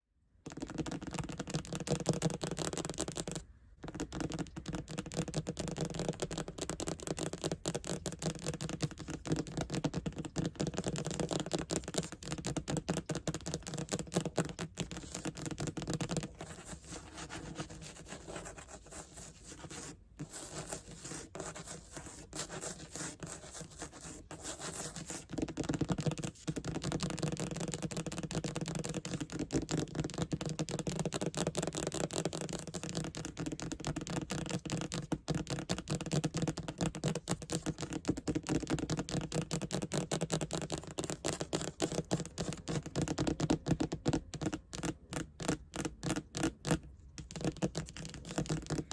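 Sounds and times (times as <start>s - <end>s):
fast tapping and scratching: 0.4s - 48.9s.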